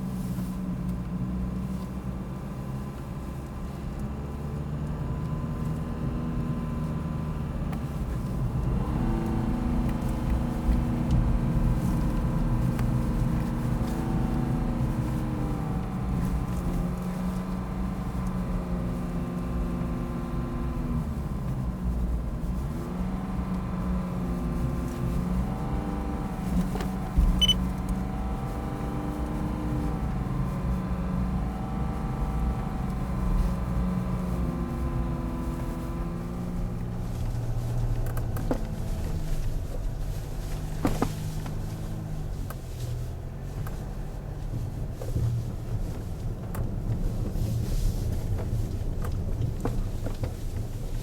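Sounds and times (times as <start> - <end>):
car engine running: 0.0 - 51.0
low road rumble: 0.0 - 51.0.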